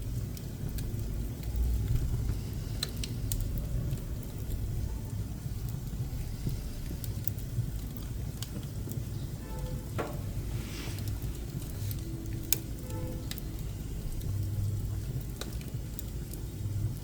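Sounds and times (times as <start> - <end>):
fire hissing: 0.0 - 17.0
low rumble of fire: 0.0 - 17.0.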